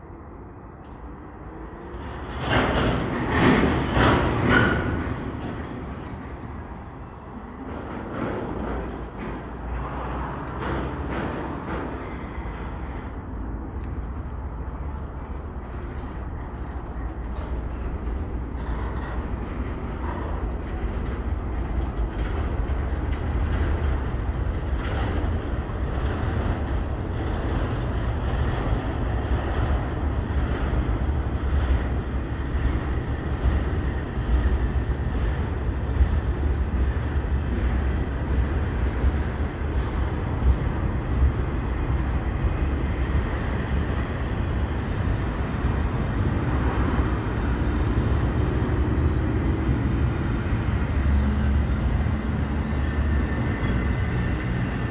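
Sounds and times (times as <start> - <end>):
steel wheels rumbling on rail: 0.0 - 54.9
train cars clacking and knocking: 0.0 - 54.9.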